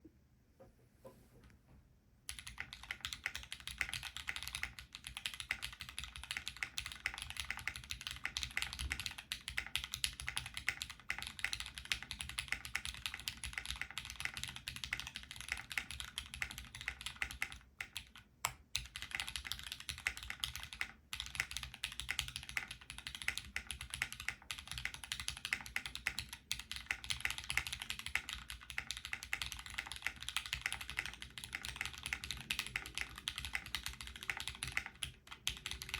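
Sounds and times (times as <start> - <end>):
mechanical keyboard typing: 2.3 - 35.9.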